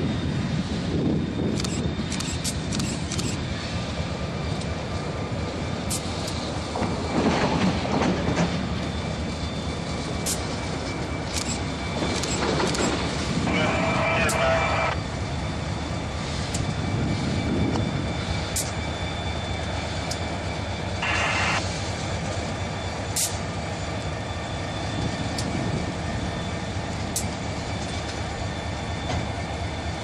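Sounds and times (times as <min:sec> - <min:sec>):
diesel locomotive rumbling past: 0:00.0 - 0:30.0.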